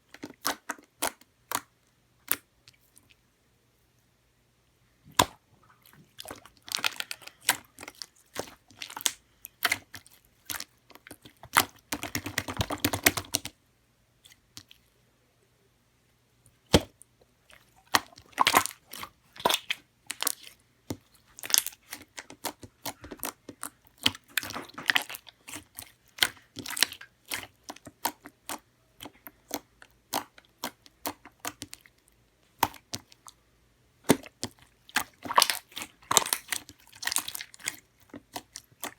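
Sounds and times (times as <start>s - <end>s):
wet eating sounds and chewing: 0.0s - 3.2s, 5.1s - 13.5s, 14.2s - 15.0s, 16.6s - 33.4s, 34.0s - 38.9s.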